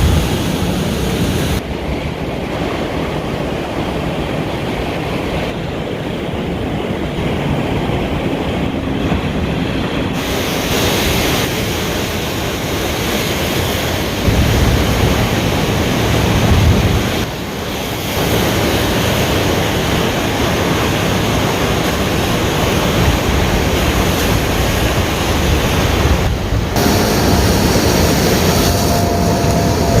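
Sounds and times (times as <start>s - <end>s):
ocean surf breaking on shore: 0.0s - 30.0s.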